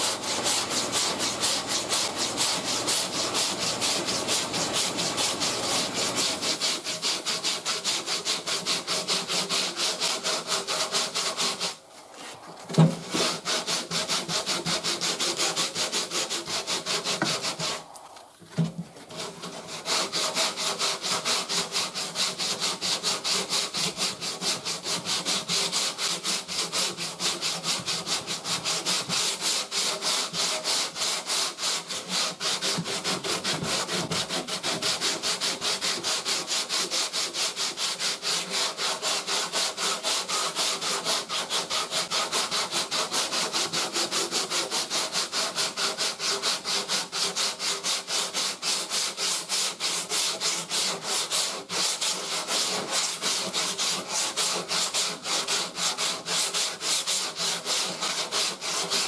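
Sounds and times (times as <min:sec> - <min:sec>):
sanding block rasping: 0:00.0 - 0:18.0, 0:19.1 - 0:59.0.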